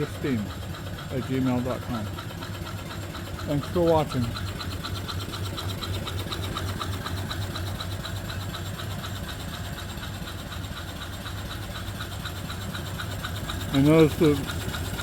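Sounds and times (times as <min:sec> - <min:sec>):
small steam engine running: 0:00.0 - 0:15.0.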